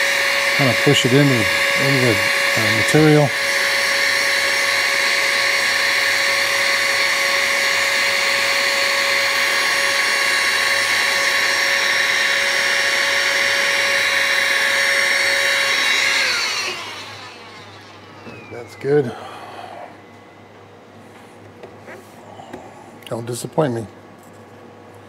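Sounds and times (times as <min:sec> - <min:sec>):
electric blower whining: 0:00.0 - 0:21.6.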